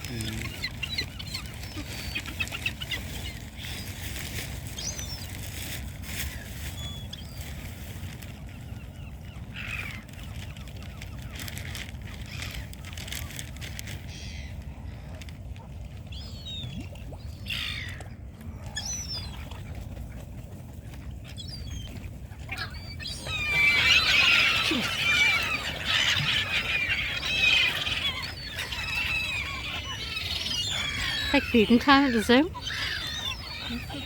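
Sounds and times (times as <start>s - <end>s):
waterbirds squawking: 0.0s - 5.4s, 8.5s - 13.4s, 14.0s - 14.6s, 16.1s - 34.0s.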